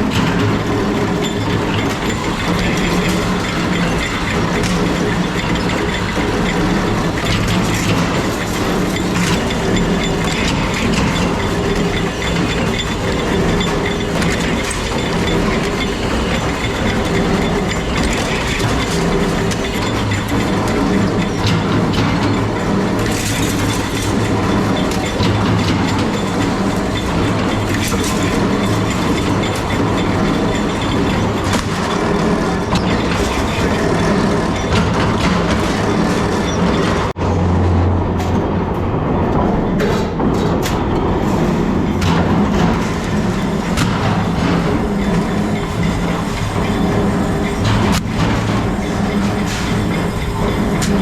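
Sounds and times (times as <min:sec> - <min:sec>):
machinery hum: 0:00.0 - 0:51.0.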